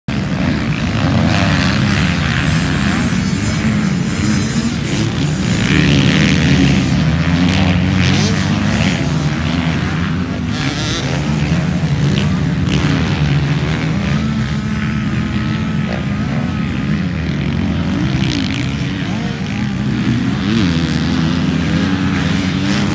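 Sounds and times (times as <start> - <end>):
motorbike engines revving: 0.1 - 22.9.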